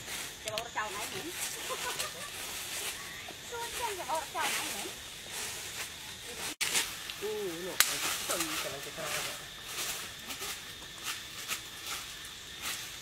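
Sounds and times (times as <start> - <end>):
rustling hiss: 0.0 - 13.0.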